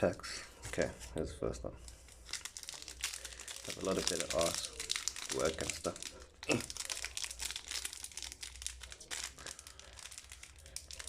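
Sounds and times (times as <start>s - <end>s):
foil wrapper crinkling: 1.8s - 11.0s.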